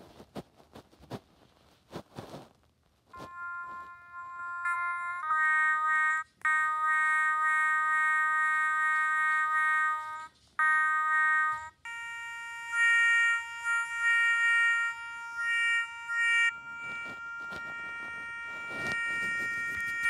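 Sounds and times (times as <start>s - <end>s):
electronic toy tones: 3.2s - 20.0s.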